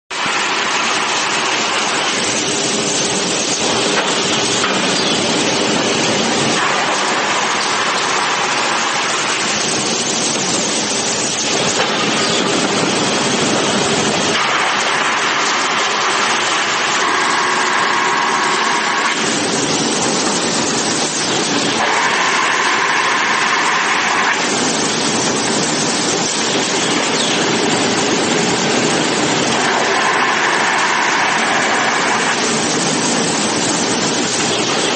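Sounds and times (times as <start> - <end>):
industrial sander running: 0.2 - 34.9.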